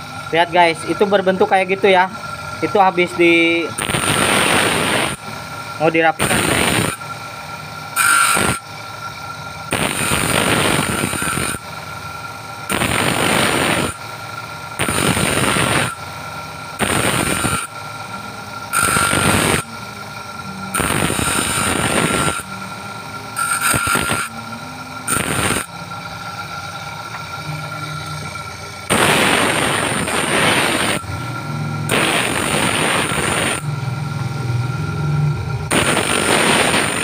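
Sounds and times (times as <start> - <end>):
grinding wheel whine: 0.0 - 37.0
metal ring grinding: 0.0 - 37.0.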